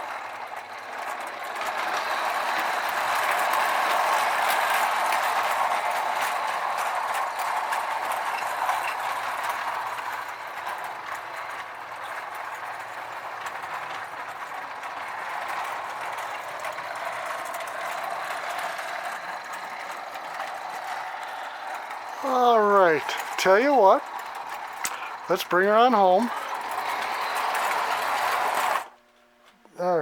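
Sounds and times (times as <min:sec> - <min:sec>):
toy train rattling on track: 0:00.0 - 0:29.0.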